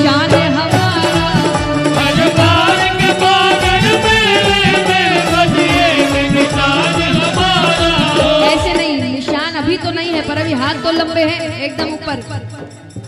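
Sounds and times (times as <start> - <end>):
devotional song melody: 0.0 - 13.0
drum strokes: 0.0 - 13.0.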